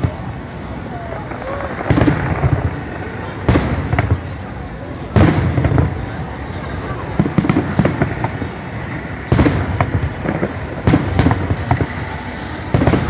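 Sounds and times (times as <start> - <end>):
fireworks booming: 0.0 - 13.0
fireworks crackling pops: 0.0 - 13.0.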